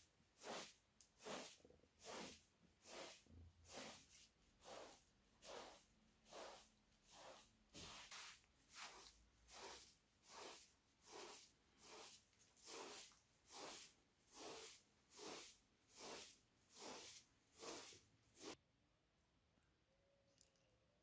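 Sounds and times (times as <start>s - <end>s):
hand broom sweeping carpet: 0.0s - 18.6s.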